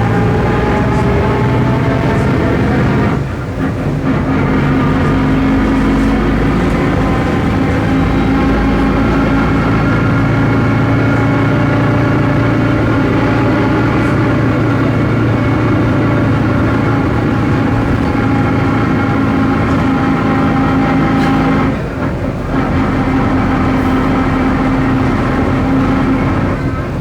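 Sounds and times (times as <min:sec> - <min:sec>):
differential growl: 0:00.0 - 0:21.8
bus diesel engine humming: 0:00.0 - 0:27.0.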